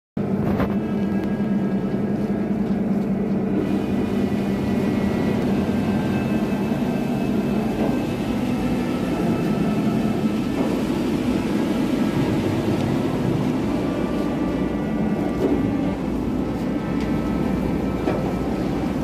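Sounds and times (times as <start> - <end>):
boat engines droning: 0.8 - 19.0.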